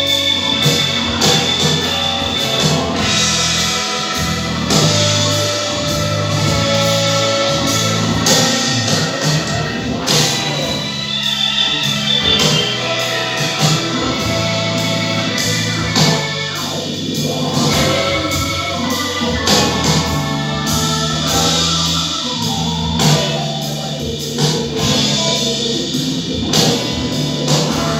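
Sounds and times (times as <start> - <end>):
held bass notes: 0.0 - 27.9
regular drum beat: 0.0 - 27.9.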